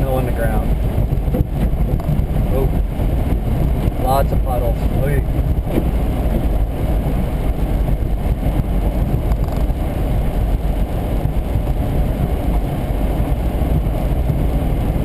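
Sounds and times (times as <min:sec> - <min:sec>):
car road noise on wet road: 0:00.0 - 0:15.0.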